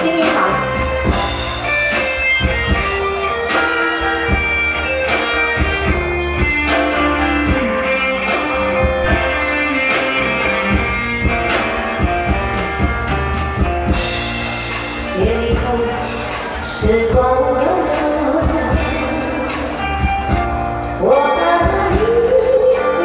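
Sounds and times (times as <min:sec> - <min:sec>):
band playing ballad intro: 0:00.0 - 0:23.0.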